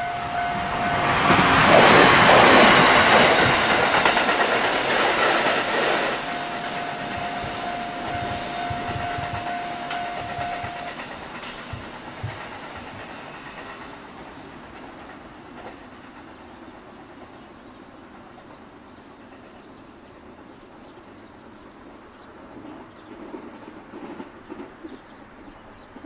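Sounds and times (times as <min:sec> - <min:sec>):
train wheel and rail noise: 0:00.0 - 0:26.0.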